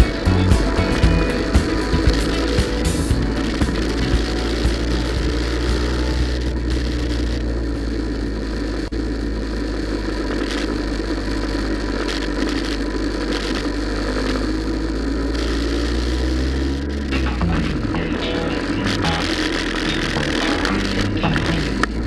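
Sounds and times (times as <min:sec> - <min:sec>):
road noise: 0:00.0 - 0:22.0
scooter engines running: 0:00.0 - 0:22.0.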